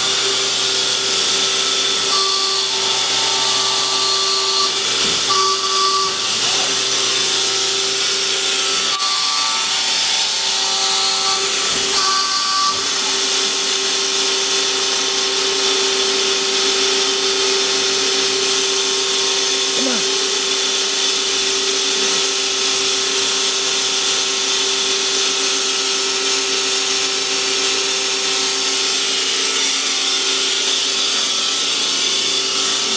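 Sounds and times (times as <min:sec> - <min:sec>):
hydraulic pump whine: 0:00.0 - 0:32.9.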